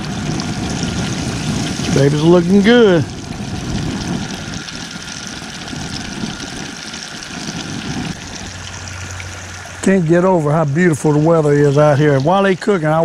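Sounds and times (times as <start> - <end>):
fish deep-frying in hot oil: 0.0 - 13.0.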